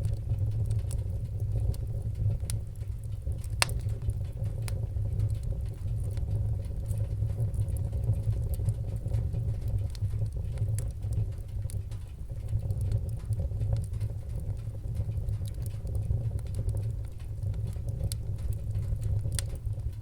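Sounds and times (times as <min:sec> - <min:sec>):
fire crackling: 0:00.0 - 0:20.0
sharp pops and snaps: 0:00.0 - 0:20.0.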